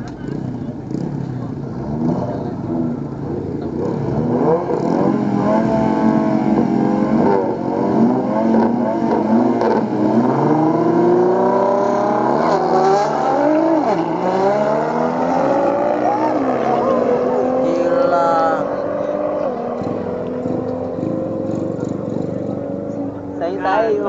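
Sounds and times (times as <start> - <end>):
cars accelerating away: 0.0 - 23.4
car engines revving: 0.0 - 24.0.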